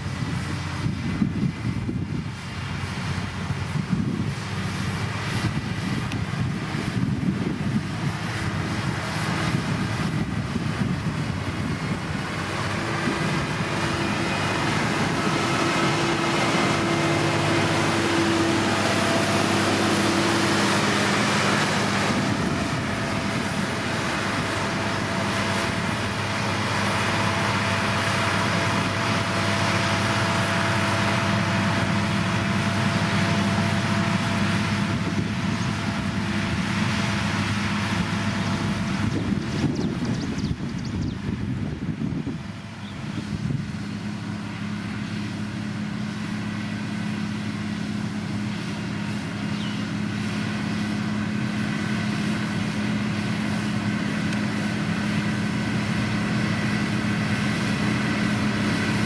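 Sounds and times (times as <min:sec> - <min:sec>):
diesel construction machinery running: 0:00.0 - 0:59.0
steady humming tone: 0:05.2 - 0:59.0.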